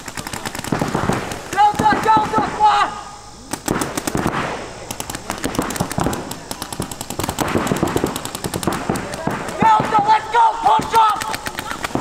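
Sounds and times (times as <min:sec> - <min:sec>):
paintball markers firing: 0:00.0 - 0:02.5, 0:03.5 - 0:12.0.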